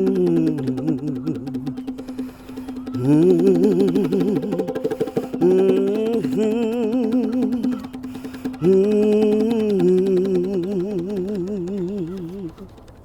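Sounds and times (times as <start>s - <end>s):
low drone: 0.0s - 11.3s.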